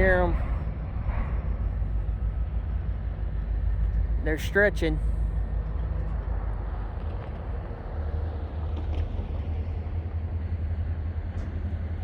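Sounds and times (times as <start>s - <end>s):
diesel locomotives droning: 0.0s - 12.0s.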